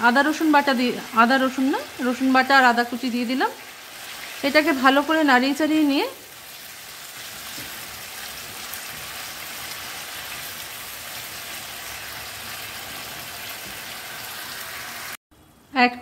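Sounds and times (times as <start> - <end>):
meat sizzling in oil: 0.0 - 15.2.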